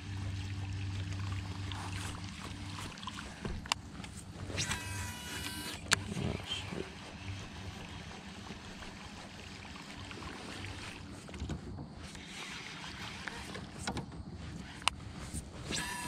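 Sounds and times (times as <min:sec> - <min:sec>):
water against boat hull: 0:00.0 - 0:16.0.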